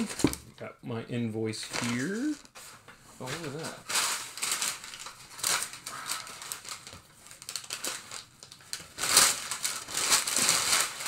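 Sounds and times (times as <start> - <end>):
packing paper crinkling: 1.6 - 11.0.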